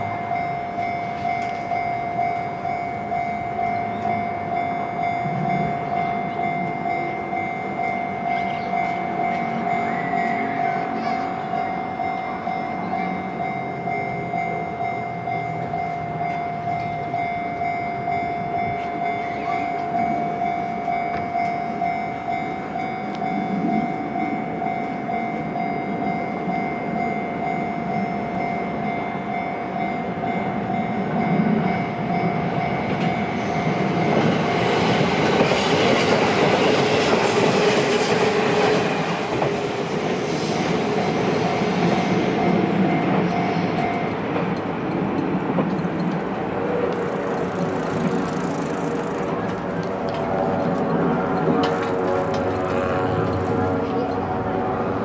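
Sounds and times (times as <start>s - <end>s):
crossing warning bell ringing: 0.0s - 55.0s
train running noise: 0.0s - 55.0s.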